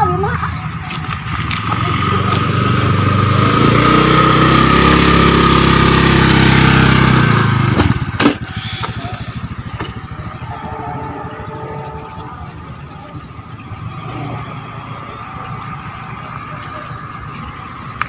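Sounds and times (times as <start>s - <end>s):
motorcycle passing by: 0.0s - 18.0s.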